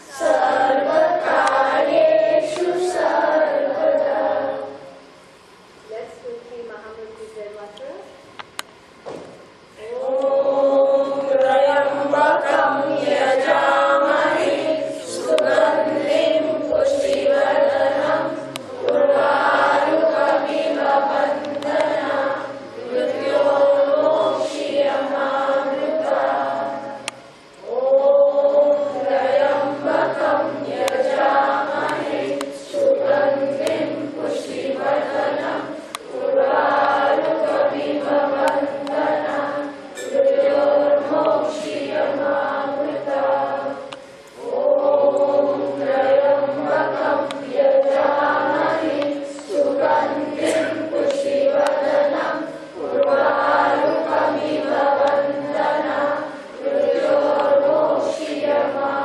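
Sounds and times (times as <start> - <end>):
group chanting in unison: 0.0 - 5.0, 9.8 - 59.0.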